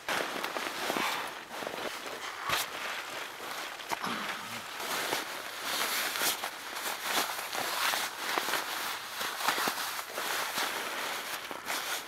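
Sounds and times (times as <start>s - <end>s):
clothing rustling: 0.0s - 12.0s.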